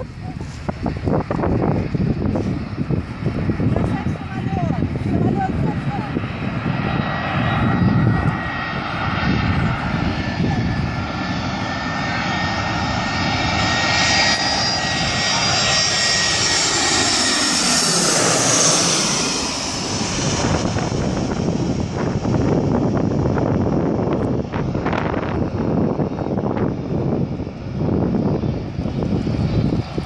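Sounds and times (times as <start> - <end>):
jet airliner passing overhead: 0.0 - 30.0
wind rumble on microphone: 0.0 - 30.0.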